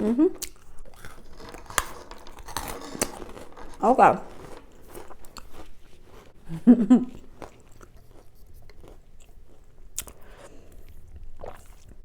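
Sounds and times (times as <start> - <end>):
chewing crunchy snacks: 0.4 - 6.4, 7.1 - 12.0.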